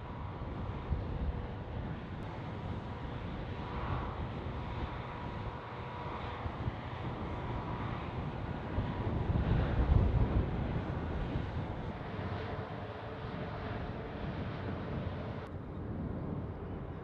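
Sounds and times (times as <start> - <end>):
distant machinery hum: 0.0 - 17.0
wind rumbling on microphone: 0.0 - 17.0.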